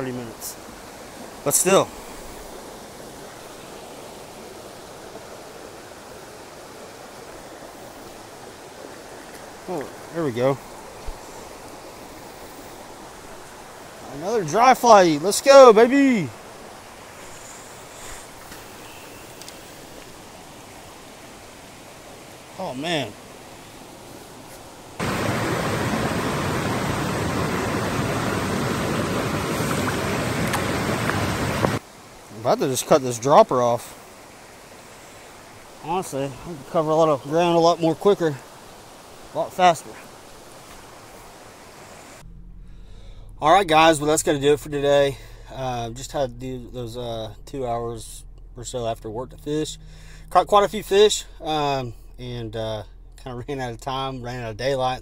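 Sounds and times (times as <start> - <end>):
stream water rushing: 0.0 - 42.3, 43.5 - 55.0.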